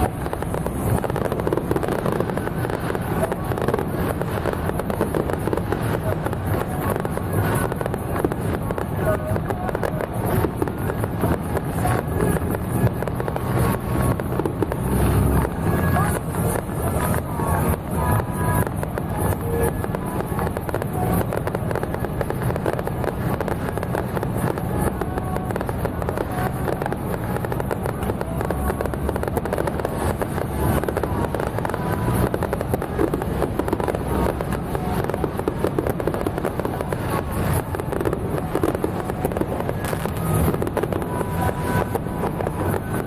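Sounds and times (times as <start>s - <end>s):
fireworks crackling: 0.0s - 43.0s
low rumble: 0.0s - 43.0s.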